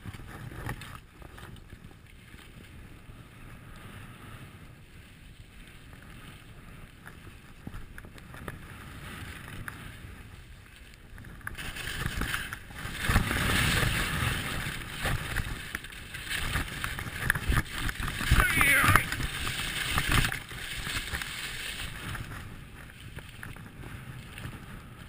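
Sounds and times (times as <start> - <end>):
skis sliding over snow: 0.0 - 25.0
wind rushing over microphone: 0.0 - 25.0.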